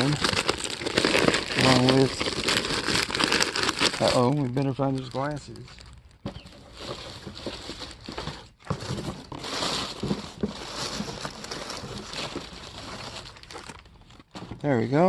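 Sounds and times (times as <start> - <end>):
hands rustling through packaging: 0.0 - 15.0.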